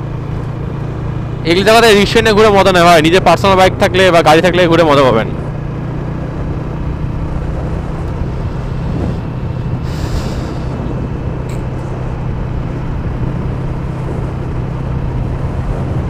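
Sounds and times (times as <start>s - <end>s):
road noise: 0.0s - 16.0s
vehicle engine hum: 0.0s - 16.0s.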